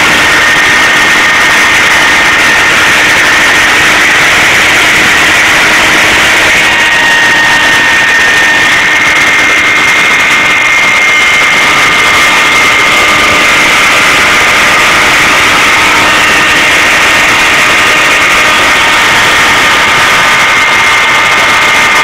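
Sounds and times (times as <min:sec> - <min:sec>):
machine whining mechanical noise: 0:00.0 - 0:22.0.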